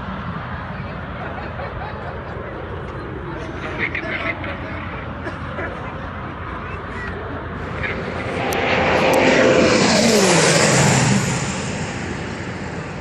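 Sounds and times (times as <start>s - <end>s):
turboprop plane flyby: 0.0s - 13.0s.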